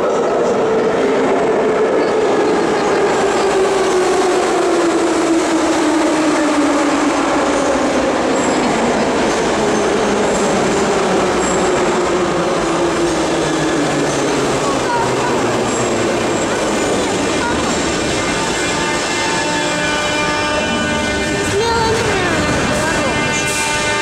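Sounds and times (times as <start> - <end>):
train rumbling with motor whine: 0.0 - 24.0.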